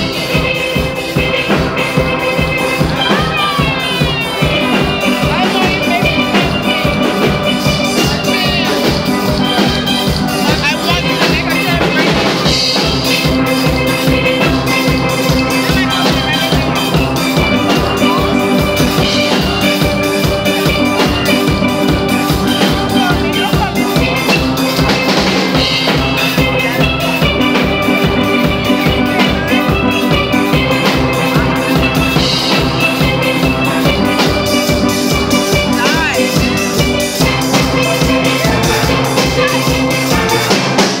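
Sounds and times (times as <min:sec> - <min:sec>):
drum kit beat: 0:00.0 - 0:41.0
sustained melody instruments: 0:00.0 - 0:41.0.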